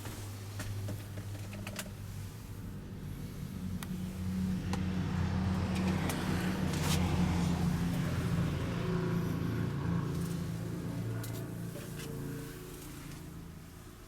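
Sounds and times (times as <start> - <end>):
truck engine idling: 1.9 - 14.0.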